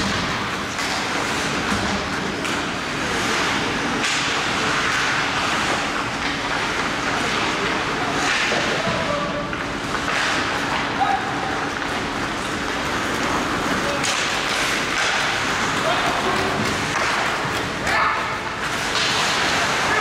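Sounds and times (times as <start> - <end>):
skates scraping on ice: 0.0 - 10.8, 11.6 - 20.0
hockey sticks and puck clacking: 0.0 - 20.0.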